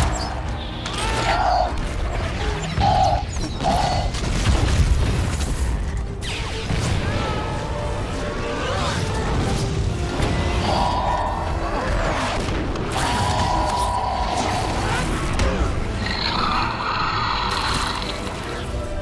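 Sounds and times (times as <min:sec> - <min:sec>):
action film music: 0:00.0 - 0:19.0.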